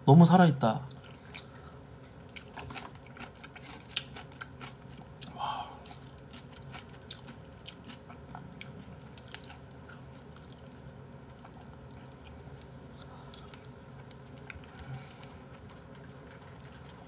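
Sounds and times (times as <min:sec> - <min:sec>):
low steady hum: 0:00.0 - 0:17.0
person chewing porridge: 0:00.9 - 0:17.0.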